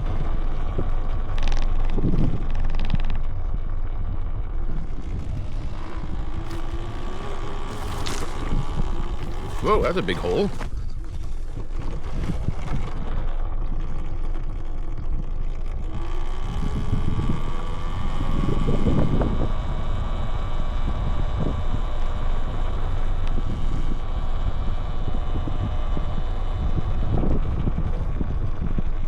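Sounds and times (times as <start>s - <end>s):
electric motor whine: 0.0s - 29.0s
low rumble of riding: 0.0s - 29.0s
wind buffeting microphone: 0.0s - 29.0s.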